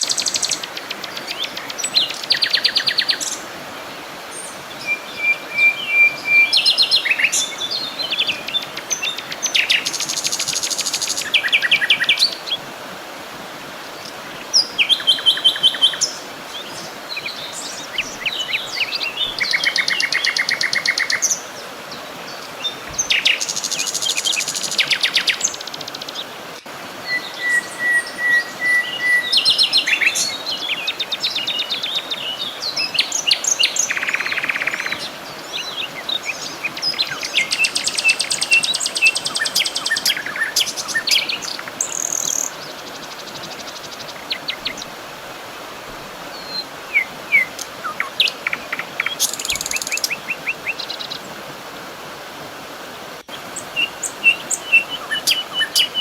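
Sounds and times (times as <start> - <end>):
steady background hiss: 0.0 - 56.0
birds singing and chirping: 4.3 - 12.6, 13.9 - 26.3, 27.0 - 51.4, 53.3 - 56.0.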